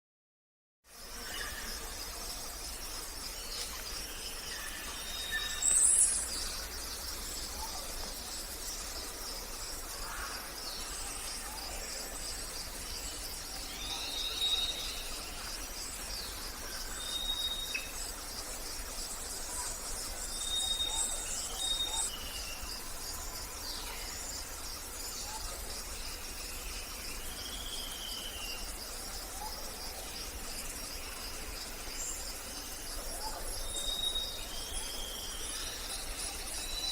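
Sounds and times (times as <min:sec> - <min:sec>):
pulsing insect trill: 0:01.0 - 0:36.9.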